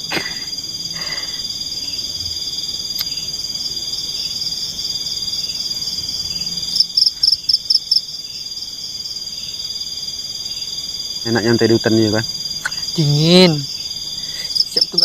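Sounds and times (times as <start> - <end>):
forest insects trilling: 0.0 - 15.0
sharp pulsing insect call: 0.0 - 15.0.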